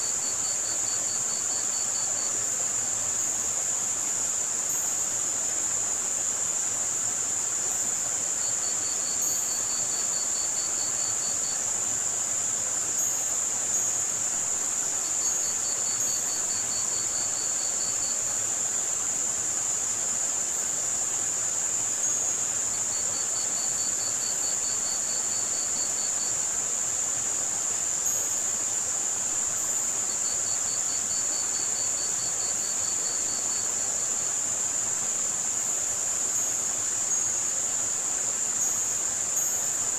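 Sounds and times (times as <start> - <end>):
crickets trilling: 0.0 - 39.9
high-pitched white noise hiss: 0.0 - 39.9.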